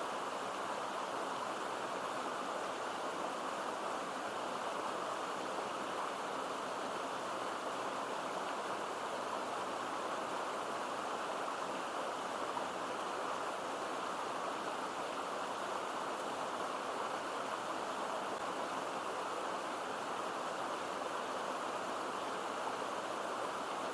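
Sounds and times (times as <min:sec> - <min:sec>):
stream water babbling: 0:00.0 - 0:23.9.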